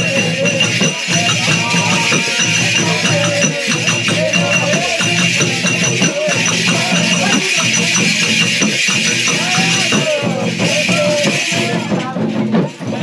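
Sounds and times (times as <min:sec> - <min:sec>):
wavering melody: 0:00.0 - 0:12.1
folk dance music: 0:00.0 - 0:13.0
quick percussive beat: 0:00.0 - 0:13.0.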